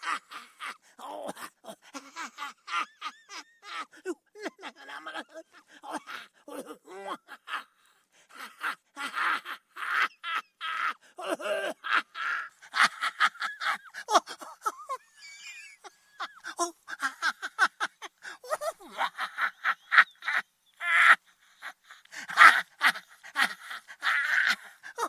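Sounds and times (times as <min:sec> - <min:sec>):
man laughing maniacally: 0:00.0 - 0:25.0.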